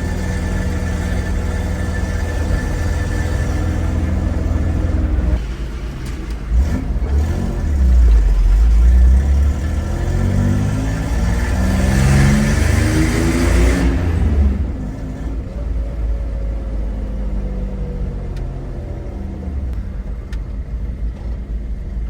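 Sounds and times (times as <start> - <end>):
pickup engine running and revving: 0.0 - 21.3.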